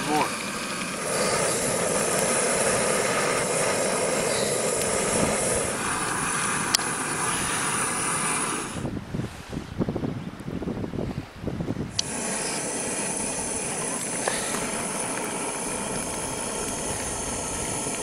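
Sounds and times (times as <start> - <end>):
camping stove burning hiss: 0.0 - 9.8, 11.1 - 18.0.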